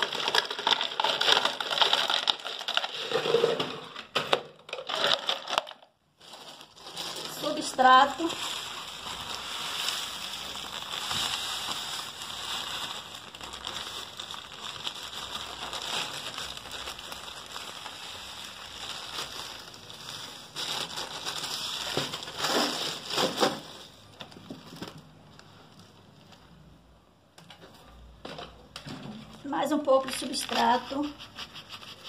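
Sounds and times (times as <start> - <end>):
plastic bag crinkling: 0.0 - 4.0, 4.6 - 26.7, 29.3 - 32.0.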